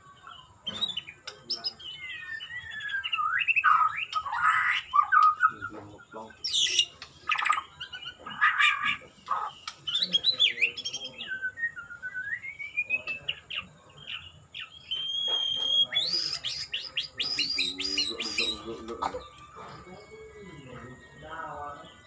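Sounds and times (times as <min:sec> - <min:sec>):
bird singing whistled notes: 0:00.0 - 0:22.0.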